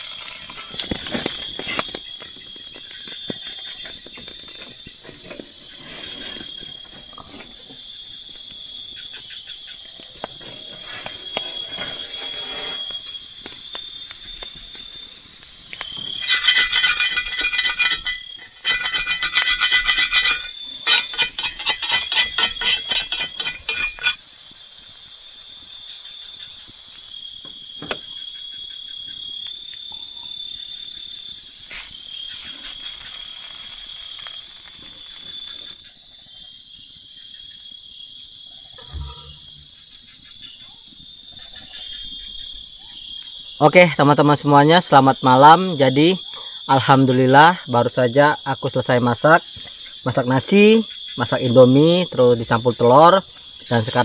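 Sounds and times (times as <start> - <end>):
crickets chirring: 0.0 - 54.0
loud pulsing insect call: 0.0 - 54.0.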